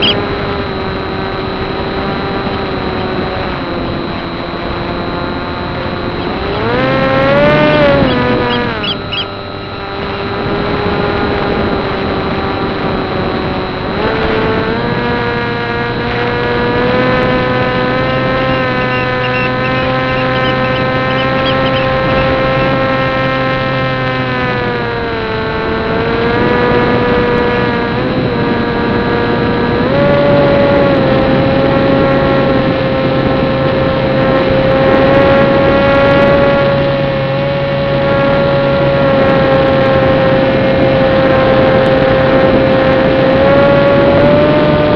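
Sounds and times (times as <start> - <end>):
electric motor propeller whining drone: 0.0 - 44.9.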